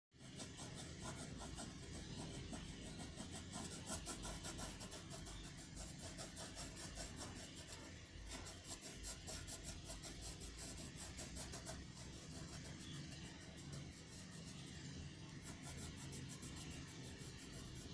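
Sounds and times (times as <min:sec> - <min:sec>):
pencil scratching on paper: 0:00.2 - 0:17.9.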